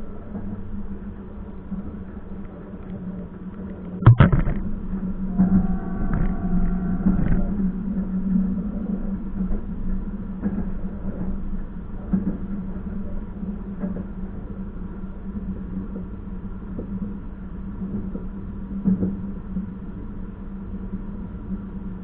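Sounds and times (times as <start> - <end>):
train carriage hum: 0.0 - 22.0.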